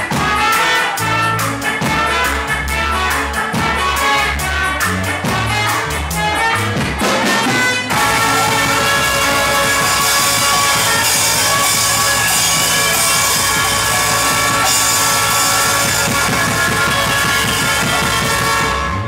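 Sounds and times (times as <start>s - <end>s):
drum kit beat: 0.0s - 19.0s
electric guitar: 0.0s - 19.0s
horns playing: 0.0s - 19.0s.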